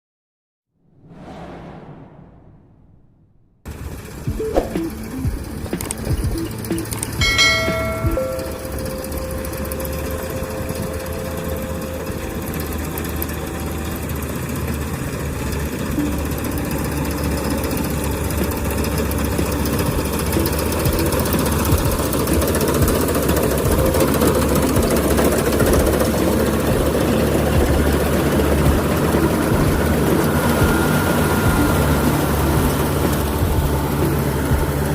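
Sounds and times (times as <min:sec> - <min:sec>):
combine harvester engine running: 0:03.7 - 0:34.9.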